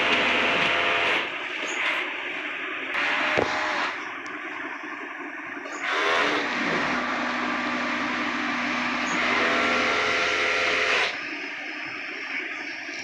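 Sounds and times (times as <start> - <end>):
motor humming: 0.0 - 2.3, 3.0 - 12.0.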